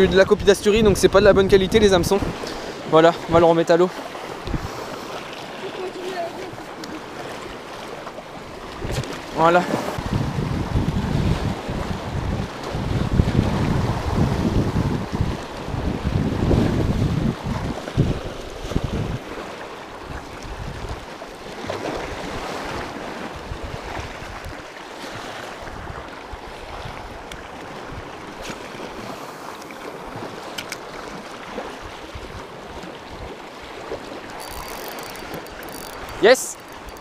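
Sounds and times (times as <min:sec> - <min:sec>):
wind buffeting microphone: 0:00.0 - 0:03.4, 0:04.2 - 0:21.1, 0:21.9 - 0:24.6, 0:25.6 - 0:33.4
sea waves on rocky shore: 0:00.0 - 0:37.0.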